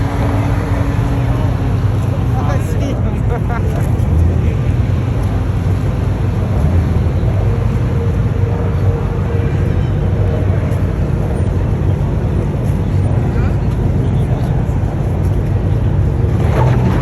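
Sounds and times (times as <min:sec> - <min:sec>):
vehicle engines rumbling: 0:00.0 - 0:17.0.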